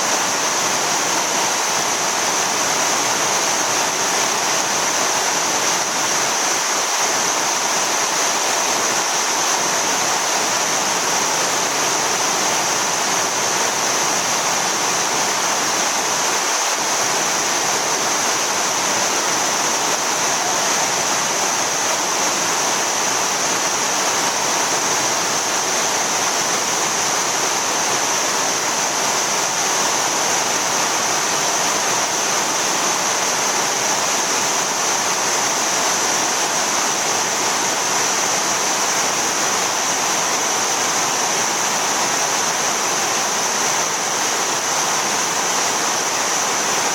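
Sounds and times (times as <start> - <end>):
waterfall rushing roar: 0.0 - 46.9.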